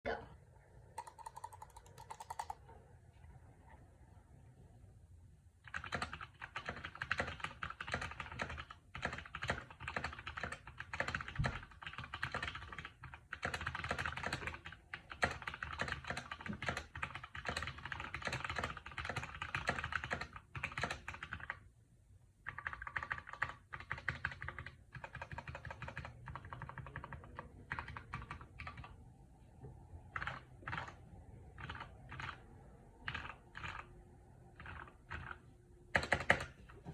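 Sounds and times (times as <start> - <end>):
fast typing on mechanical keyboard: 1.0 - 2.6, 5.6 - 21.6, 22.4 - 29.0, 30.1 - 36.6.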